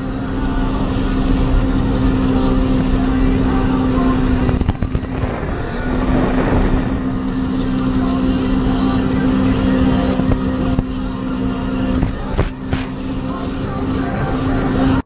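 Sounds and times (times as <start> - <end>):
watercraft engine running: 0.0 - 15.0.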